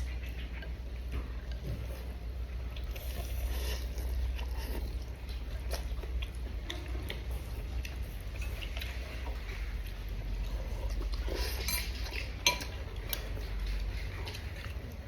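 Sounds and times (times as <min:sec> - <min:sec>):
low steady hum: 0:00.0 - 0:15.0
person chewing food: 0:00.0 - 0:15.0.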